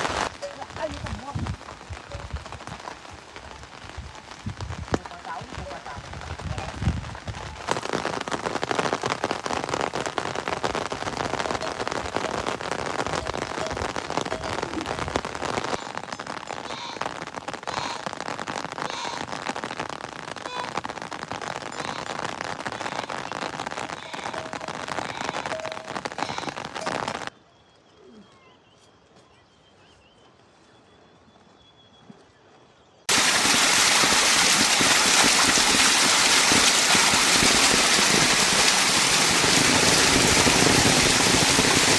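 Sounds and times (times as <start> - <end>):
heavy rain falling: 0.0 - 27.3, 33.1 - 41.9.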